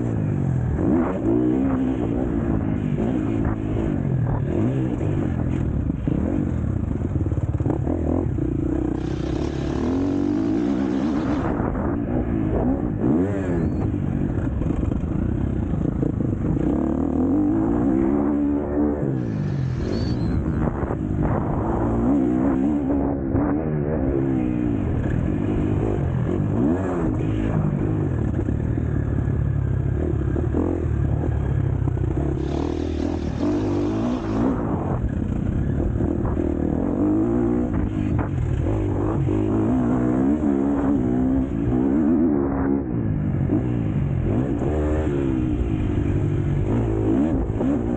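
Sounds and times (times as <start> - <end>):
motocross engine revving: 0.0 - 6.8, 7.4 - 28.8, 29.9 - 47.9.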